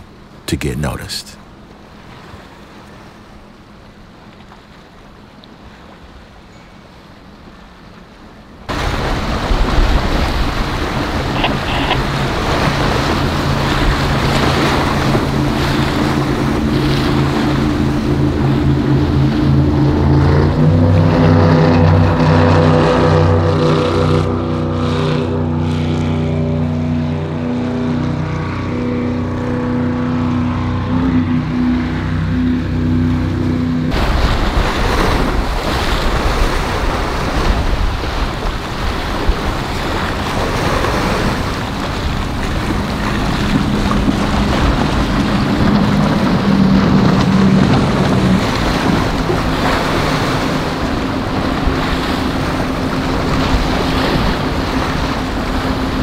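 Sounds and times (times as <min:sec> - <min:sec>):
motorboat engines: 0:00.0 - 0:56.0
waves and surf: 0:00.0 - 0:56.0.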